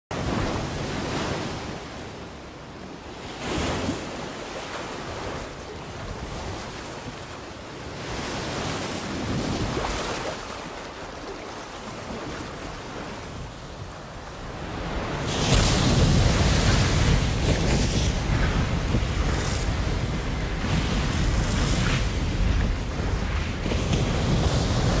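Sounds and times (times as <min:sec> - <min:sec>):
ocean surf washing over beach: 0:00.1 - 0:25.0
wind: 0:00.1 - 0:25.0.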